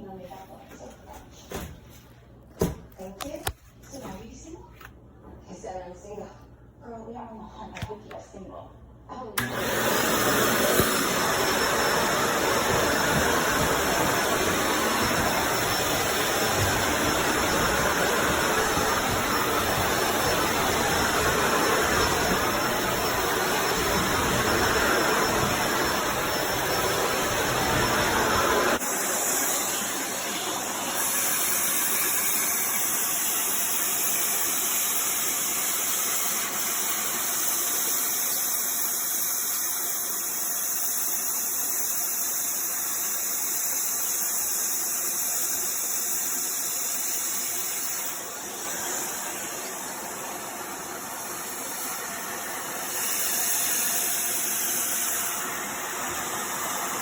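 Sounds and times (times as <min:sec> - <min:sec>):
vacuum cleaner running: 0:09.4 - 0:57.0.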